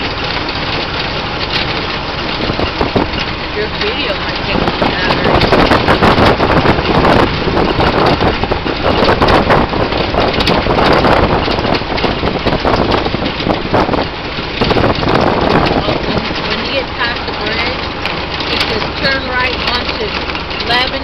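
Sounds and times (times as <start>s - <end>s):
car engine running: 0.0s - 21.0s
tyres crunching on gravel: 0.0s - 21.0s
wind noise on microphone: 0.0s - 21.0s.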